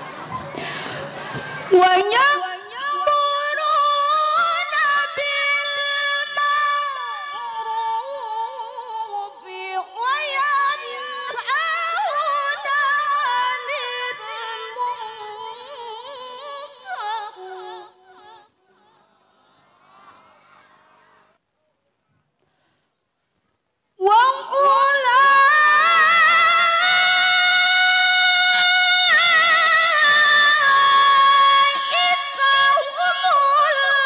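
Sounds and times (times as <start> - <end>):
woman reciting melodically: 0.6 - 19.0, 24.0 - 34.0.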